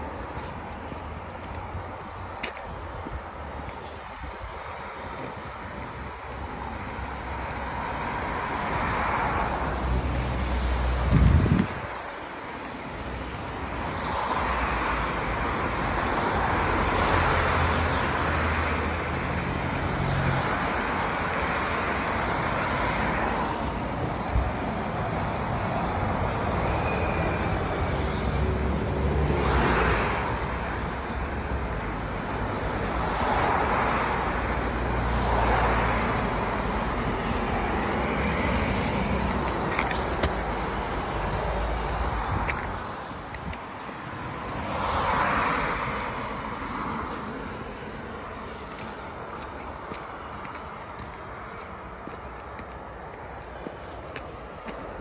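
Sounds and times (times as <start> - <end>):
cars passing: 0.0 - 55.0
low traffic rumble: 0.0 - 55.0.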